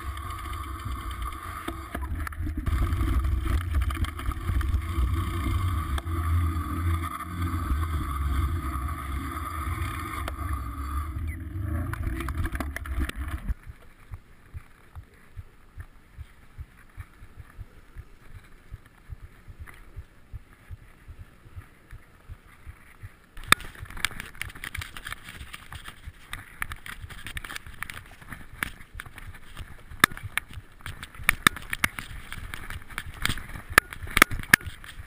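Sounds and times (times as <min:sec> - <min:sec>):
bike rattling on rough trail: 0:00.0 - 0:35.0.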